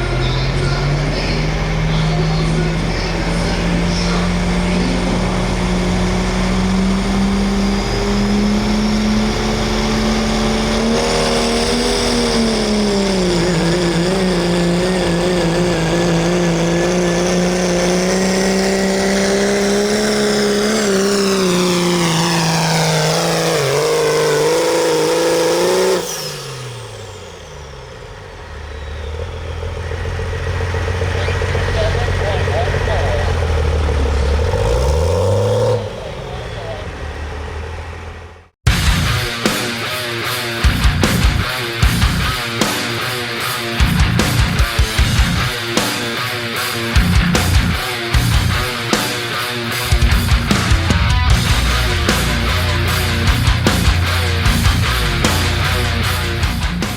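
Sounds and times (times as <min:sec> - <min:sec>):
pickup truck engine revving: 0:00.0 - 0:56.9.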